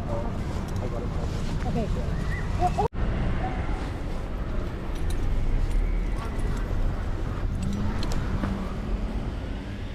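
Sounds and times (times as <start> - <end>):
low traffic rumble: 0.0 - 9.9.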